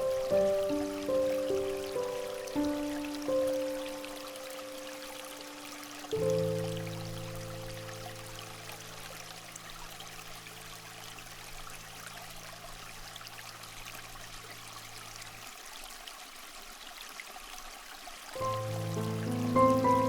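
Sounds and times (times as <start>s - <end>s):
trickling water: 0.0s - 20.0s.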